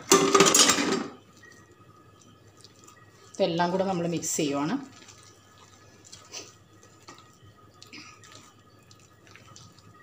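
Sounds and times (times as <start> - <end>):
hand squelching thick batter: 1.3 - 10.0.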